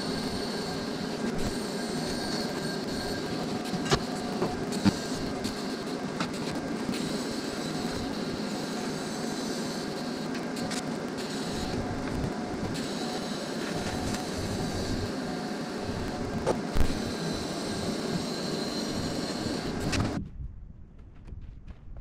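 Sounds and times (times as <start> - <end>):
faint high whine: 0.0 - 20.2
welding arc: 0.0 - 20.2.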